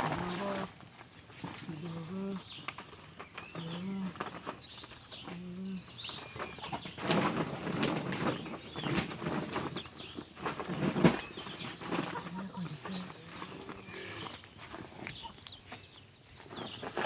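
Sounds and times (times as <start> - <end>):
birds chirping: 1.2 - 17.0
rustling and clattering: 2.6 - 17.0.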